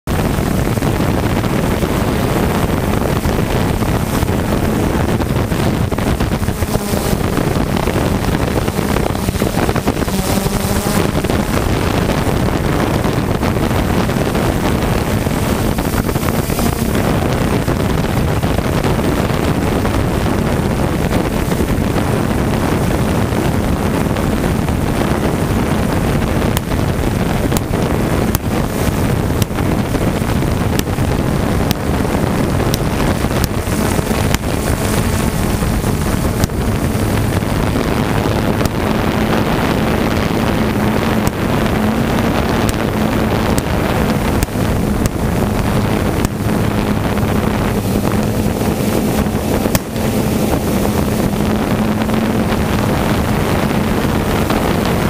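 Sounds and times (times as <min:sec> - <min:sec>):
wind buffeting microphone: 0:00.0 - 0:55.0
drone motors whirring: 0:00.2 - 0:19.1, 0:25.7 - 0:55.0.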